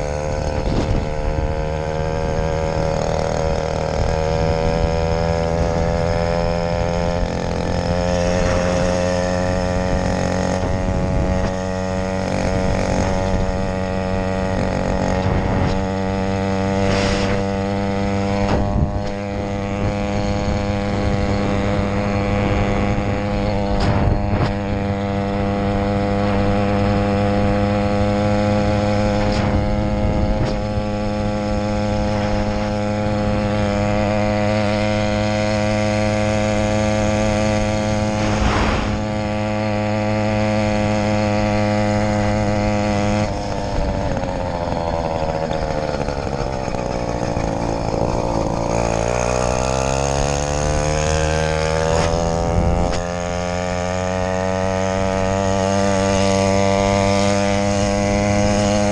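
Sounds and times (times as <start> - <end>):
small two-stroke engine running: 0.0 - 58.9.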